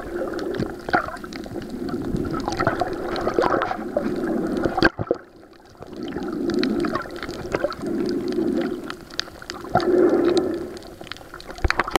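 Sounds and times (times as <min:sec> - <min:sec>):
muffled underwater water sound: 0:00.0 - 0:12.0
sharp clicks underwater: 0:00.0 - 0:12.0.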